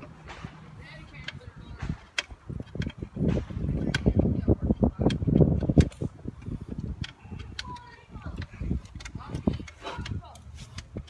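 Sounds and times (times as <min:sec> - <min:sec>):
sharp metallic clicks: 0:00.0 - 0:11.0
tools knocking and clattering: 0:00.0 - 0:11.0.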